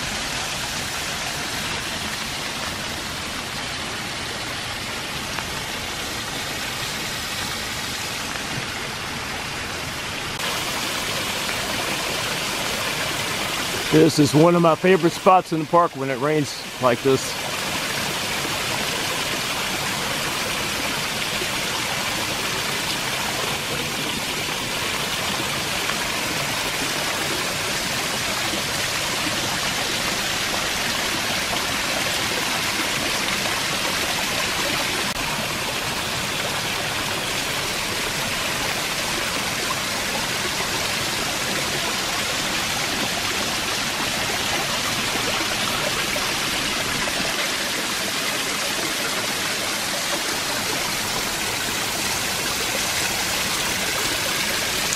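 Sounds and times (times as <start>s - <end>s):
waterfall splashing into pool: 0.0s - 54.9s.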